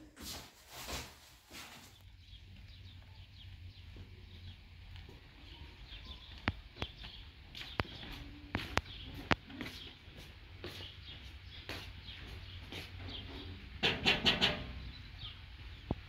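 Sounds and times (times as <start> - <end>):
small birds chirping: 1.6 - 16.0.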